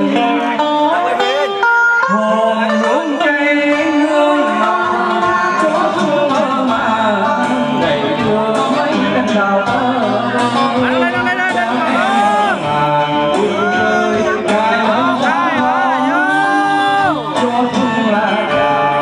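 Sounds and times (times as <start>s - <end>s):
song with singer and instruments: 0.0s - 19.0s.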